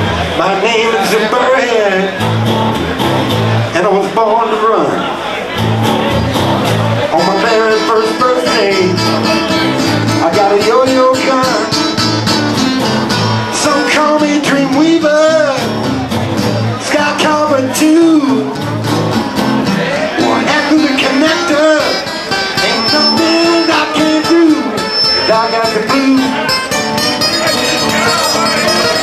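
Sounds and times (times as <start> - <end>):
acoustic guitar blues: 0.0 - 29.0.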